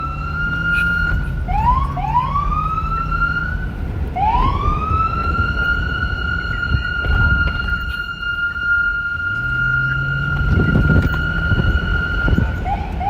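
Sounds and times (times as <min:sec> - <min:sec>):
low rumble: 0:00.0 - 0:13.0
police car siren: 0:00.0 - 0:13.0.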